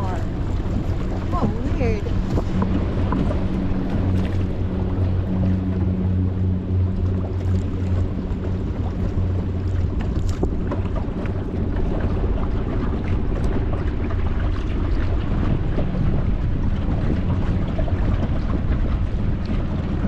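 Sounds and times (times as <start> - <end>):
boat engine humming: 0.0 - 20.0
water splashing against hull: 0.0 - 20.0
wind buffeting microphone: 0.0 - 20.0.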